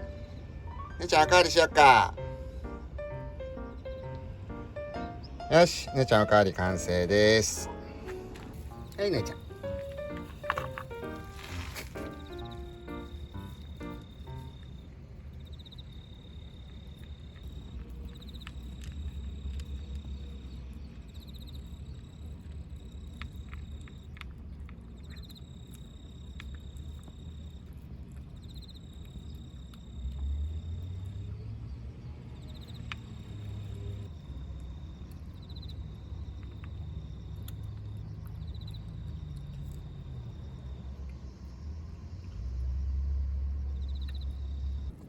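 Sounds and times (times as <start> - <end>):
distant traffic rumble: 0.0 - 45.0
insects trilling: 0.0 - 45.0.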